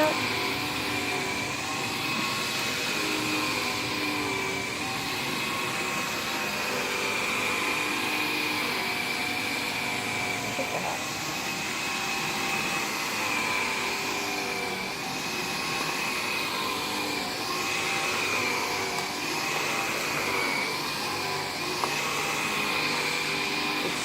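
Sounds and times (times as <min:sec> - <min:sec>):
vacuum cleaner on carpet: 0:00.0 - 0:24.0.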